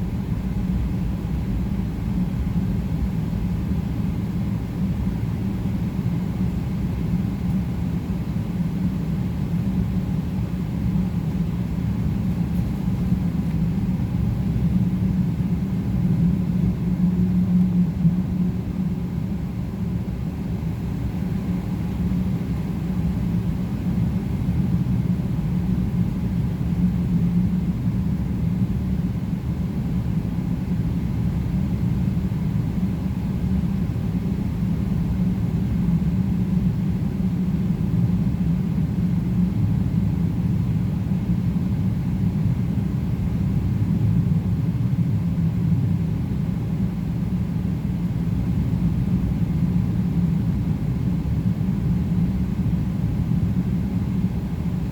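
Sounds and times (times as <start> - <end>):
aircraft cabin rumble: 0.0 - 54.9.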